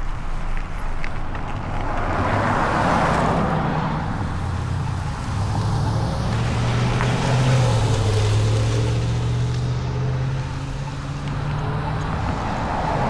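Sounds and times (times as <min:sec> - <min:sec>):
car driving past: 0:01.8 - 0:13.0.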